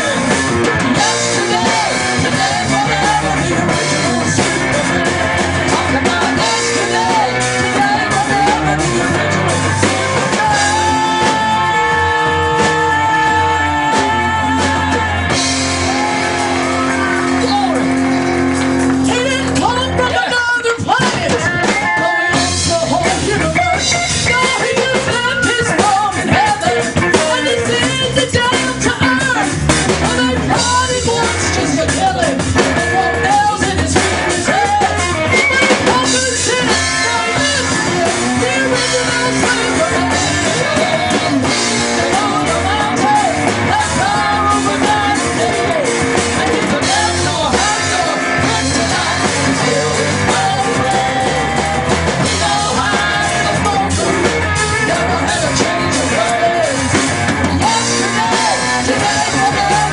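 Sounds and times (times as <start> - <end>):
live gospel band playing: 0.0 - 59.9
people singing into microphones: 0.0 - 59.9.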